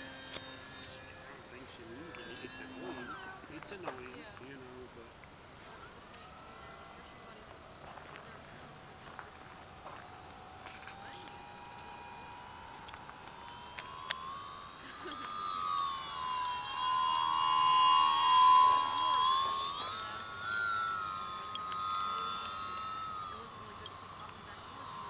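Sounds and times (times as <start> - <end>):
model plane motor whining: 0.0 - 25.0.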